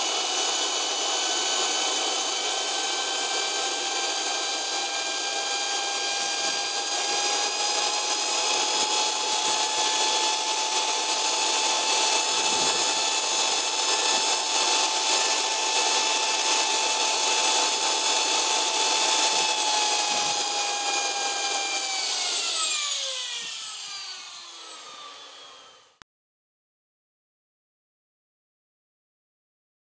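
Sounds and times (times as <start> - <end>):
jet turbine whine: 0.0 - 26.0.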